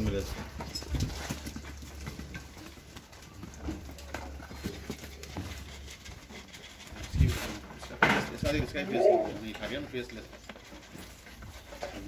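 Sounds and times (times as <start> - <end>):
goat hooves tapping on tiles: 0.0 - 12.0.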